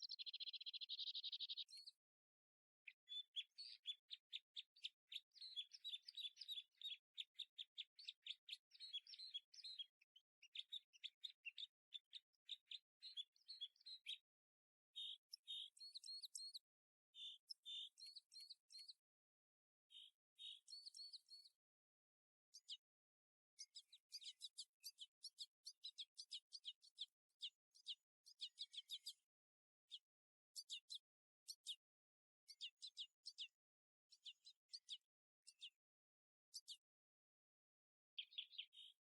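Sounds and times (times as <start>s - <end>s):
songbird chirping and trilling: 0.0s - 2.1s, 2.8s - 19.0s, 19.9s - 21.6s, 22.5s - 22.9s, 23.6s - 35.8s, 36.5s - 36.9s, 38.1s - 39.0s.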